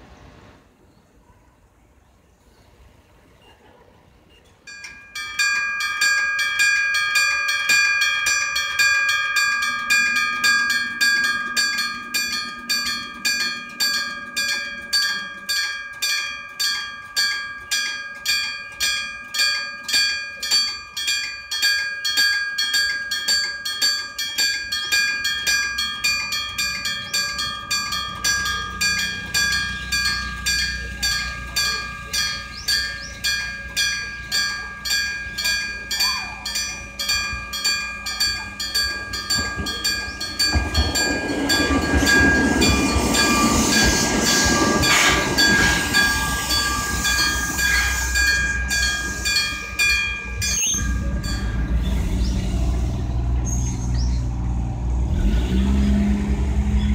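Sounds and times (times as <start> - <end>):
level crossing bell ringing: 4.7 - 52.8.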